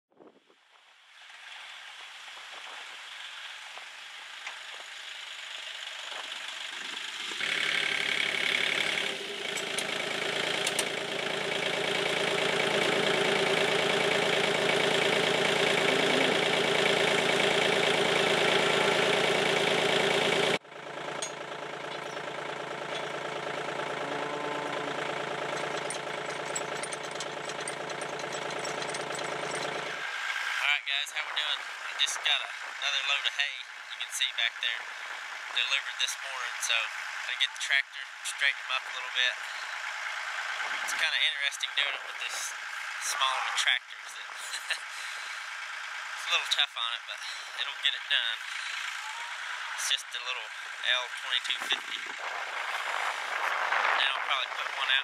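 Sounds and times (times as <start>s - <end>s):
tractor diesel engine idling: 4.0s - 30.0s, 31.0s - 52.7s.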